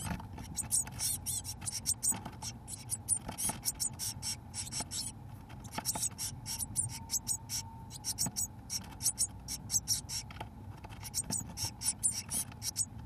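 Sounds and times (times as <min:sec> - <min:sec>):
scratches and rustles in nest box: 0:00.0 - 0:12.9
nestlings begging calls: 0:00.4 - 0:10.3, 0:11.0 - 0:12.9.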